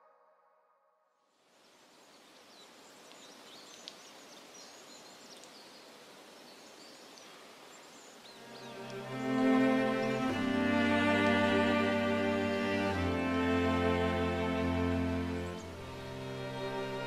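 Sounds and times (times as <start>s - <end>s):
steady background hiss: 1.4s - 17.0s.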